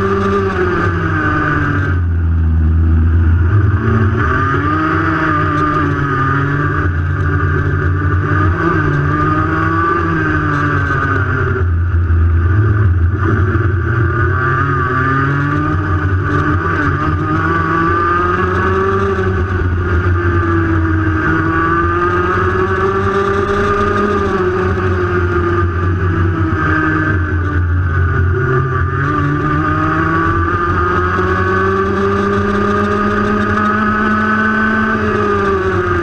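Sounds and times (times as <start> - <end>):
racing kart engine: 0.0 - 36.0.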